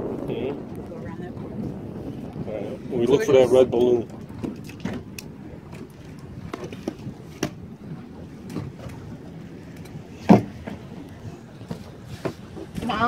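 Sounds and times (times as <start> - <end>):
motorboat wind and water rush: 0.0 - 13.0.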